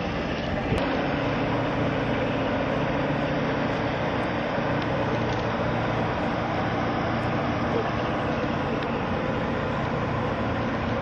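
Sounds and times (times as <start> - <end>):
boat engine drone: 0.0 - 11.0
rushing noise: 0.0 - 11.0.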